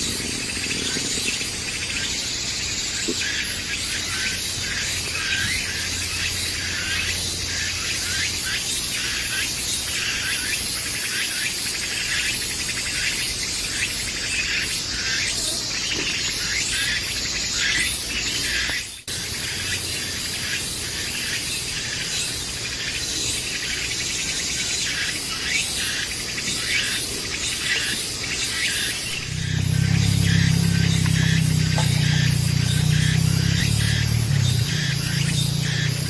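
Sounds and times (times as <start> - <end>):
insects buzzing and chirping: 0.0 - 36.0.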